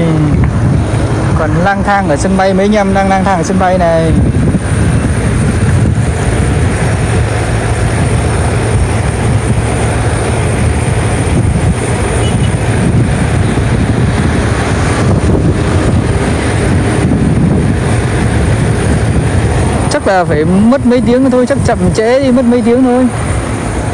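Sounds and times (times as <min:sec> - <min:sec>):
loud low rumble: 0:00.0 - 0:23.9.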